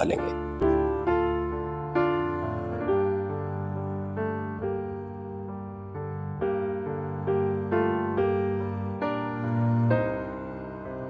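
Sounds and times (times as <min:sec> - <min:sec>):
soft piano keyboard melody: 0:00.0 - 0:11.0.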